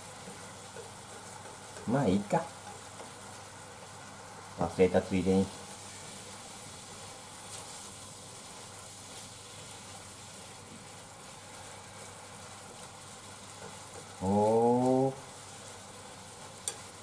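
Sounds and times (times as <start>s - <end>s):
chopsticks stirring food: 0.0s - 17.0s
food sizzling in a frying pan: 0.0s - 17.0s.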